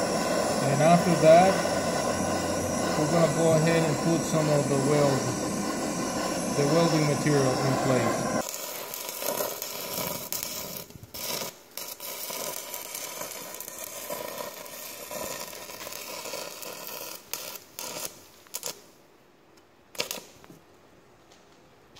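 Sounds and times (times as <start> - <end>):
welding hissing crackle: 0.0 - 19.0, 19.9 - 21.4.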